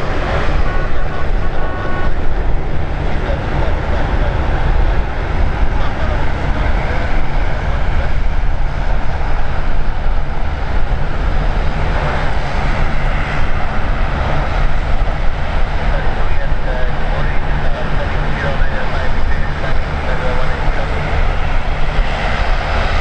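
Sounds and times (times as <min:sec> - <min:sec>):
jet engine noise: 0:00.0 - 0:23.0
wind buffeting microphone: 0:00.0 - 0:23.0.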